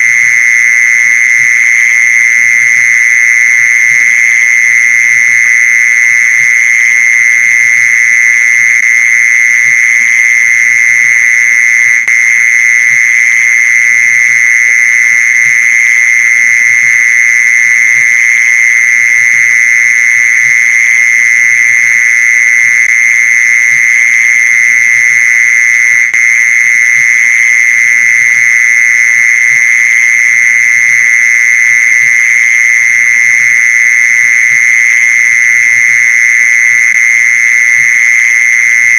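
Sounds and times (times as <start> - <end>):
mole cricket trilling: 0.0 - 38.9.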